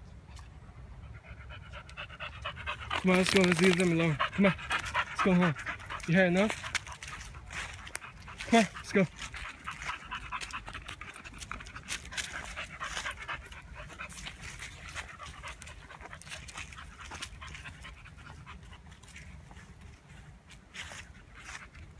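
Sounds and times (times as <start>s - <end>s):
dog panting rapidly: 0.9s - 21.9s.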